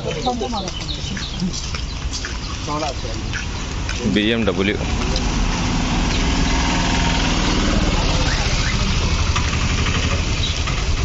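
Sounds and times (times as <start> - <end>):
vehicle engine low rumble: 0.0 - 11.0.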